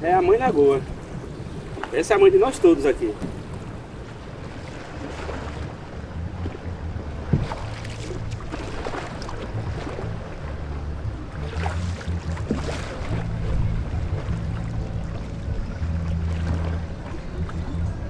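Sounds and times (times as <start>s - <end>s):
water splashing: 0.0s - 18.0s
wind on microphone: 0.0s - 18.0s.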